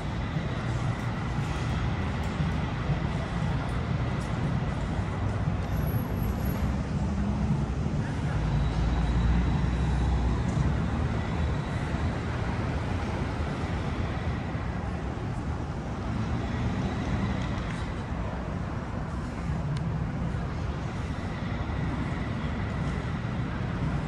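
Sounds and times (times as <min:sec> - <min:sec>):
passing cars: 0:00.0 - 0:24.0.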